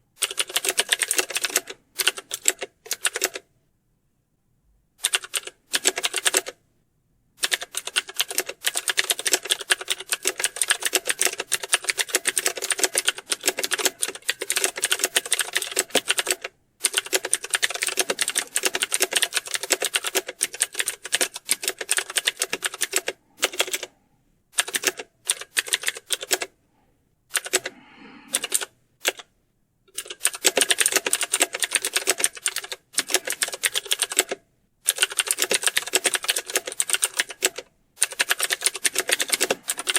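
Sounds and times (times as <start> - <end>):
fast keyboard typing: 0.2 - 3.4, 5.0 - 6.6, 7.4 - 23.9, 24.6 - 26.5, 27.3 - 27.7, 28.3 - 29.3, 29.9 - 39.9.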